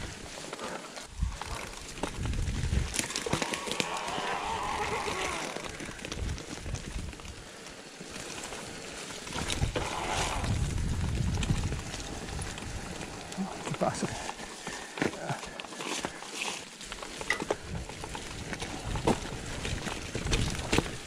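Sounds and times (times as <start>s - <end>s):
bike knocking and rattling: 0.0s - 21.0s
tyres crunching over leaves: 0.0s - 21.0s.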